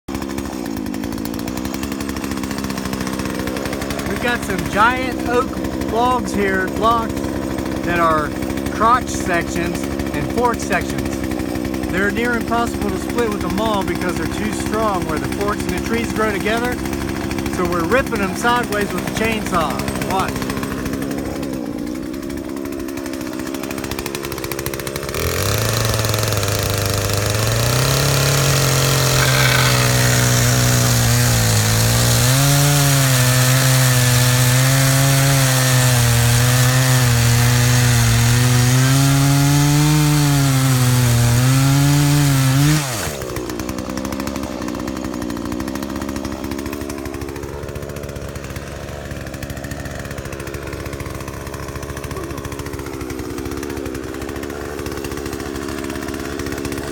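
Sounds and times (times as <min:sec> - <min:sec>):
chainsaw cutting wood: 0:00.1 - 0:56.9.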